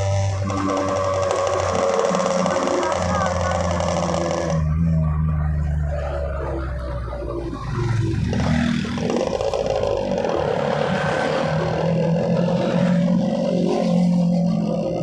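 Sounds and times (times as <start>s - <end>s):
two-stroke motorcycle engine revving: 0.0s - 5.3s, 7.7s - 15.0s.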